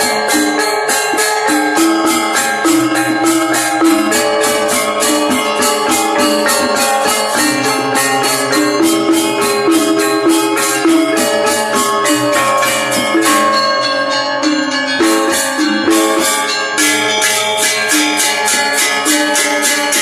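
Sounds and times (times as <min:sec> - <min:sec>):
gamelan gongs and metallophones: 0:00.0 - 0:20.0
high metallic jangle: 0:00.0 - 0:20.0.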